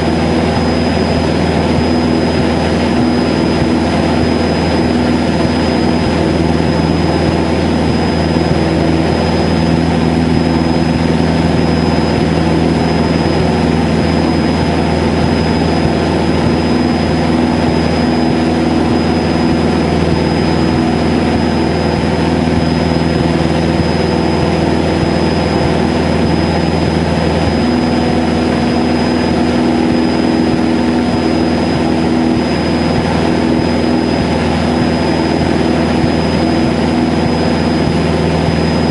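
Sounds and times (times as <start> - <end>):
propeller plane engine droning: 0.0 - 38.9
thin high whine: 0.0 - 38.9.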